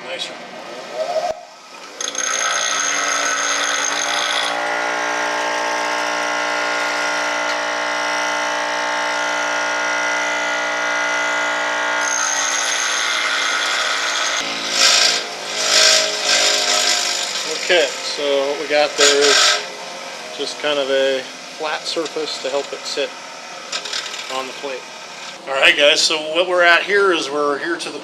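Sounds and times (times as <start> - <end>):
electric grinder grinding metal: 1.7 - 25.4.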